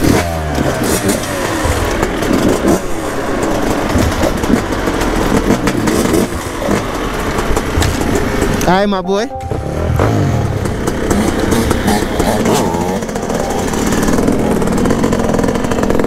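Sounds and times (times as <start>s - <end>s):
two-stroke engine running close: 0.0s - 8.6s, 10.4s - 16.0s
dirt bike engines revving: 0.0s - 8.7s, 9.9s - 16.0s.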